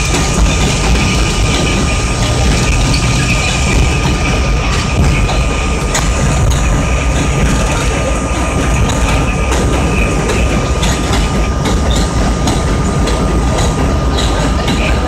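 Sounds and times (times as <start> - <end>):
subway train rumbling: 0.0 - 15.0
thin steady whine: 0.0 - 15.0
wheels clicking over rails: 0.0 - 15.0.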